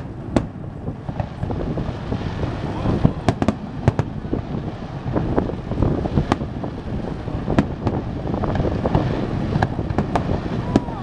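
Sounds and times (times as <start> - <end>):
fireworks banging and crackling: 0.0 - 11.0
wind on microphone: 0.0 - 11.0.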